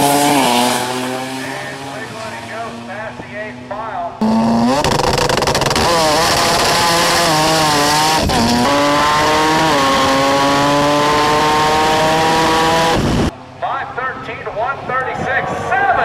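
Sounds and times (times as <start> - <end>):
drag car engine revving: 0.0 - 13.3.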